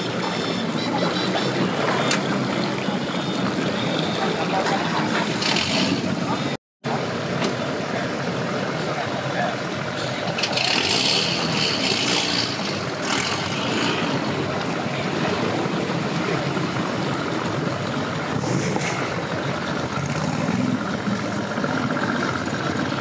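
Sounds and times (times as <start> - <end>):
outboard motor idling: 0.0 - 23.0.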